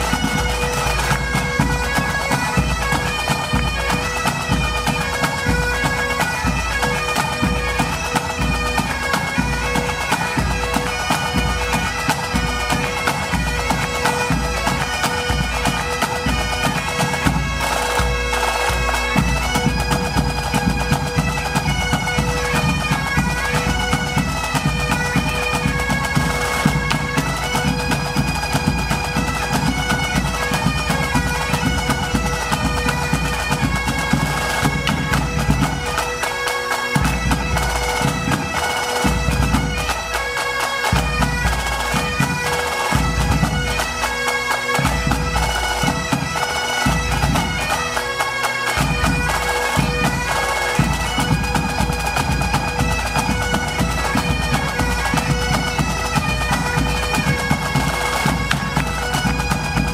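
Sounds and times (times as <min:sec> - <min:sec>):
bass and tenor drums beating: 0:00.0 - 0:36.3, 0:36.9 - 0:40.1, 0:40.9 - 0:48.1, 0:48.7 - 0:59.9
snare drums: 0:00.0 - 0:47.7, 0:48.7 - 0:59.9
bagpipes playing: 0:00.0 - 0:59.9.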